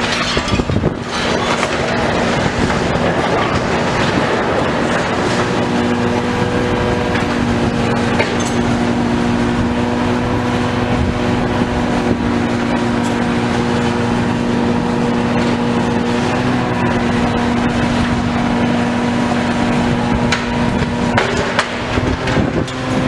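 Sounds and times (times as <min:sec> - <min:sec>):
large engine running steadily: 0:00.0 - 0:23.0.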